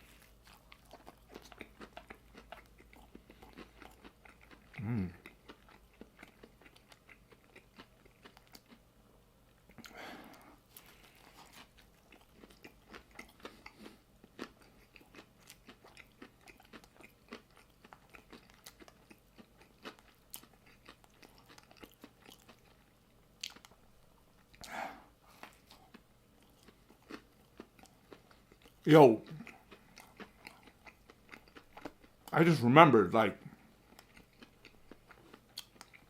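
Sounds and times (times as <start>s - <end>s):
chewing crunchy sandwich: 0.0s - 8.8s, 9.6s - 32.4s, 33.4s - 36.0s.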